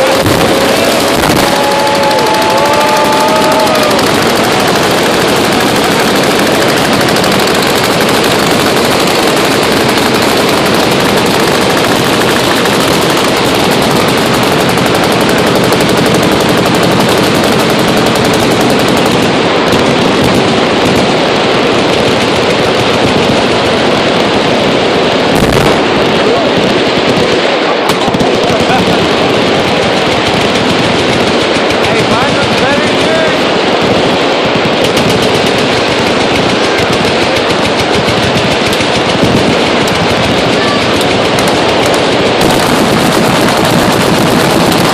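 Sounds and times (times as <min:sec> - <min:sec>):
machine guns firing: 0:00.0 - 0:44.9.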